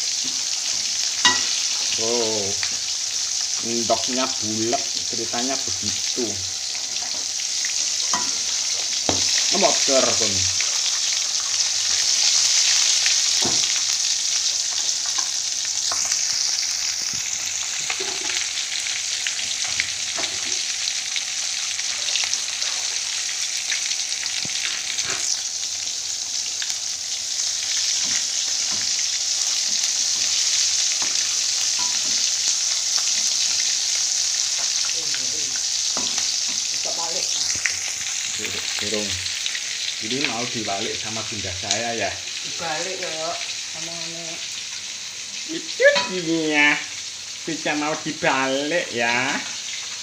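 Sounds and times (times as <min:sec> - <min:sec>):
fish sizzling in oil: 0:00.0 - 0:50.0.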